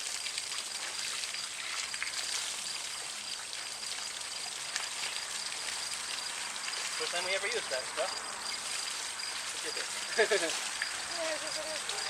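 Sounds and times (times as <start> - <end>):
water spraying from a hose: 0.0 - 12.0.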